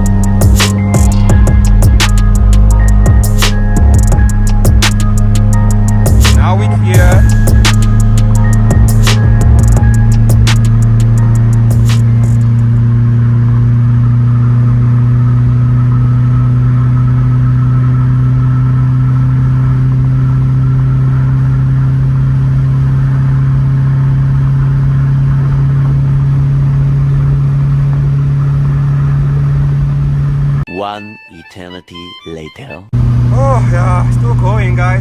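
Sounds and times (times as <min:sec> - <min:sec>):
car engine droning inside cabin: 0:00.0 - 0:30.7, 0:33.0 - 0:35.0.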